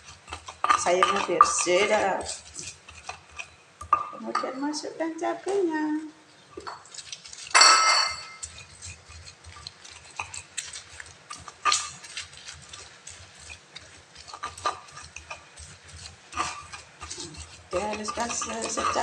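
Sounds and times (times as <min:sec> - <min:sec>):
stone pestle grinding in mortar: 0:00.0 - 0:05.7, 0:06.4 - 0:19.0.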